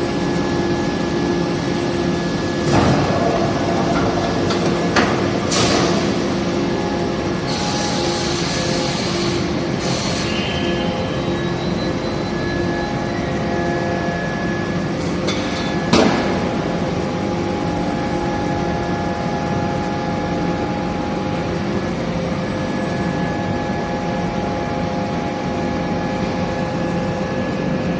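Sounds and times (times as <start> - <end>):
factory machinery humming: 0.0 - 27.9.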